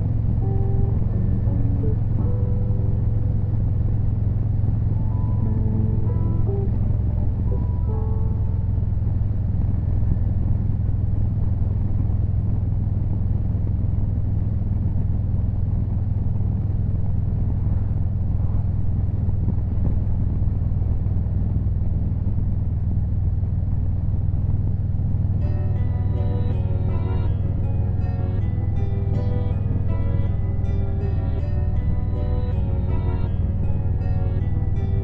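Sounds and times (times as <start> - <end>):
motorcycle engine rumbling: 0.0 - 35.0
road noise: 0.0 - 35.0.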